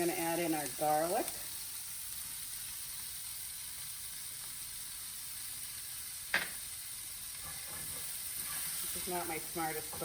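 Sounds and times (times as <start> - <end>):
onion sizzling in a frying pan: 0.0 - 10.0.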